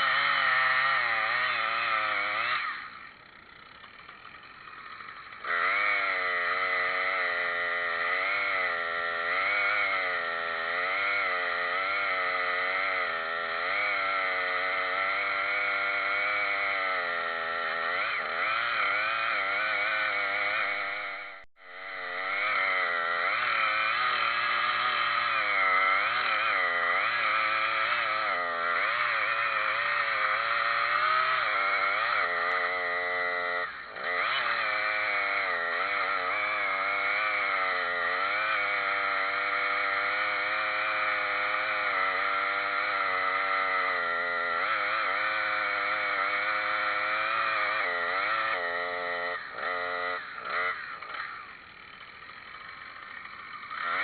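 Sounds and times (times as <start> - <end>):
chainsaw cutting at high revs: 0.0 - 54.0.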